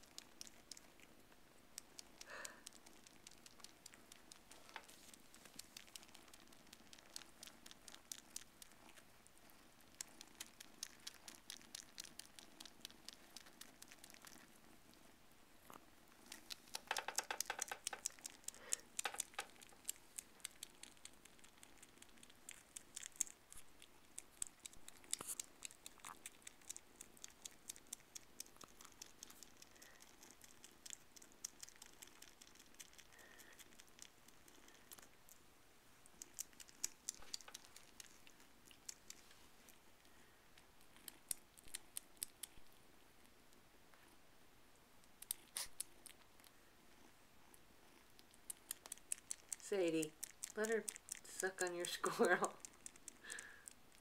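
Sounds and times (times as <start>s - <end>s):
kittens suckling clicking and smacking: 0.0s - 54.0s.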